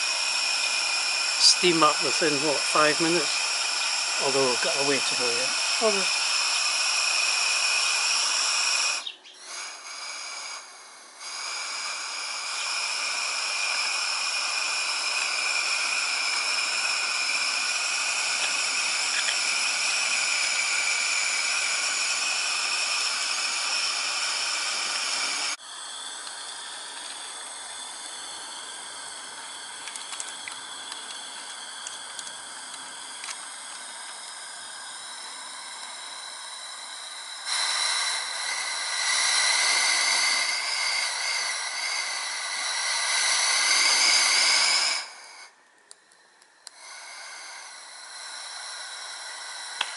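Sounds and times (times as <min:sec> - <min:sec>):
steam hiss with high whine: 0:00.0 - 0:49.9.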